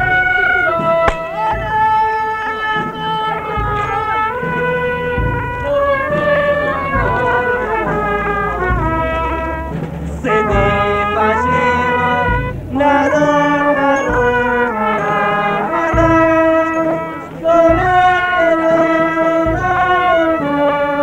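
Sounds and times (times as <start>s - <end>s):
wind band music: 0.0s - 21.0s.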